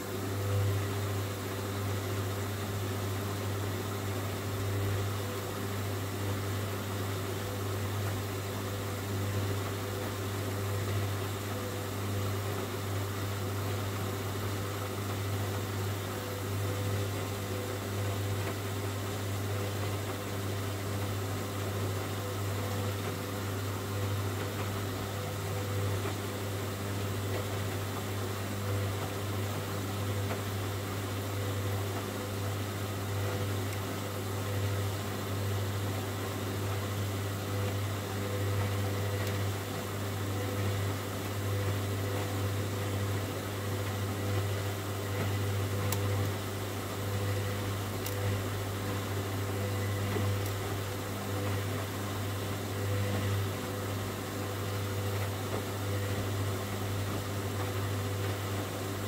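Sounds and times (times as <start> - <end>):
washing machine motor hum: 0.0 - 59.0.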